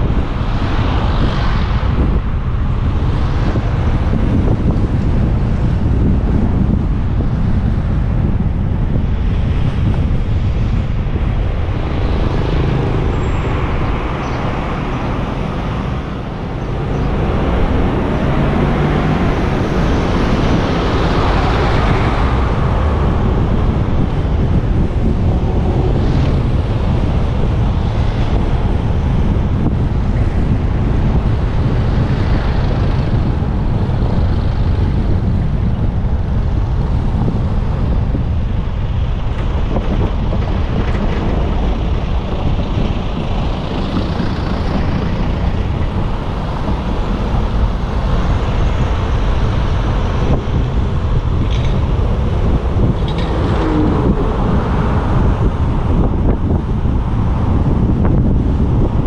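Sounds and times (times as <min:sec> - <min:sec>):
motorcycle riding: 0:00.0 - 0:59.0
road noise: 0:00.0 - 0:59.0
wind rushing over microphone: 0:00.0 - 0:59.0.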